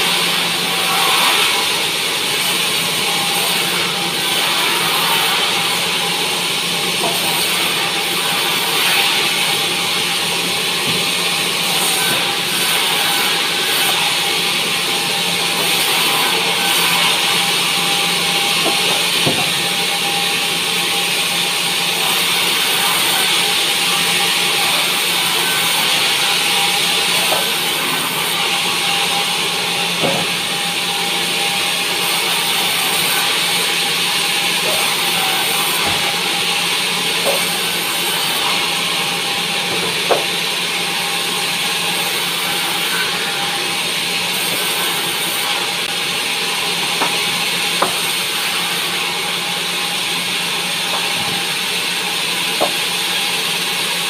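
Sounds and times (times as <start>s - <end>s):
bandsaw cutting wood: 0.0s - 54.0s.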